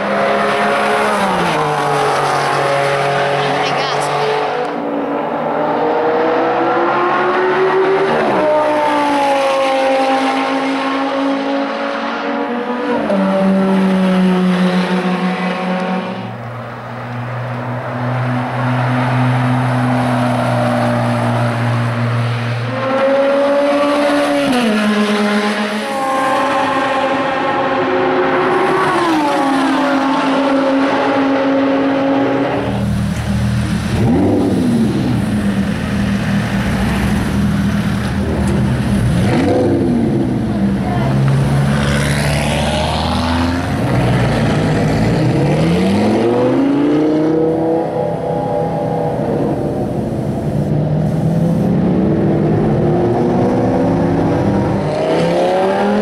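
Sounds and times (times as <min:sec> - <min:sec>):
racing car engines accelerating: 0:00.0 - 0:56.0.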